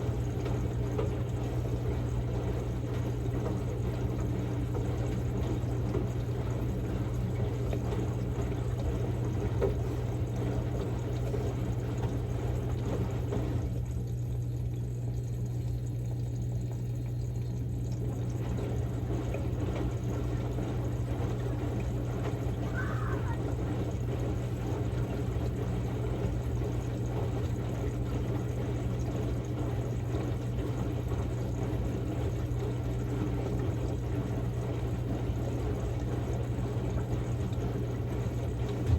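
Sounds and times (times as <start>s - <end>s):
washing machine motor hum: 0.0s - 38.9s
water sloshing in washing machine: 0.0s - 38.9s.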